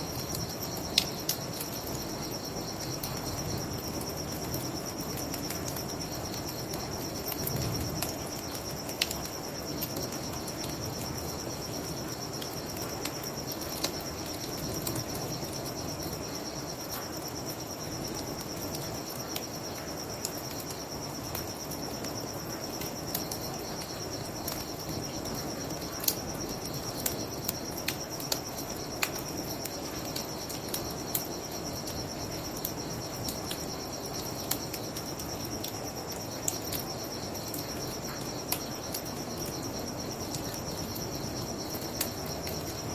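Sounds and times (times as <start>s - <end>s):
crickets chirping: 0.0s - 42.9s
wood fire crackling and popping: 0.1s - 42.9s.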